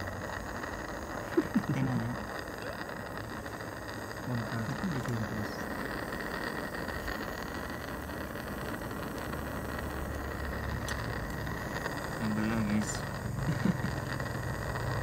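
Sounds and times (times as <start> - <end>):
gas torch hissing: 0.0 - 15.0.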